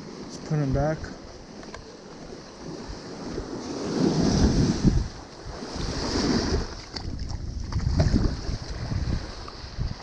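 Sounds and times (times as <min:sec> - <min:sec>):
ocean surf washing over sand: 0:00.0 - 0:10.0
wind buffeting microphone: 0:00.7 - 0:10.0.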